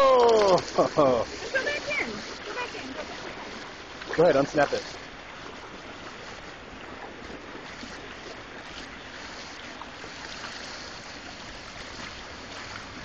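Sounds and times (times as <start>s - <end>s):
fountain water running: 0.0s - 13.0s.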